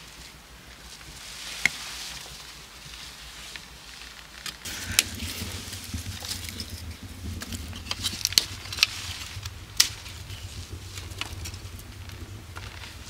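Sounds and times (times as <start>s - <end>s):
twig fire crackling: 0.0s - 13.0s.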